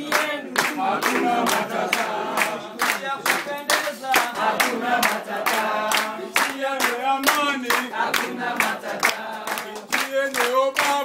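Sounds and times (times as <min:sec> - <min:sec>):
group singing: 0:00.0 - 0:11.0
hand-clapping: 0:00.0 - 0:11.0.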